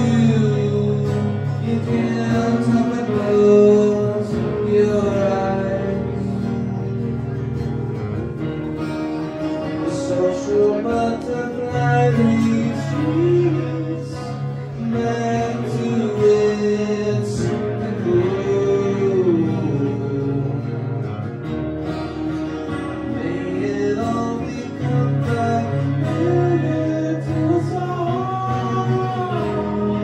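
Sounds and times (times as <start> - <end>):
man singing: 0.0 - 7.7, 9.3 - 21.2, 22.6 - 30.0
acoustic guitar playing: 0.0 - 30.0.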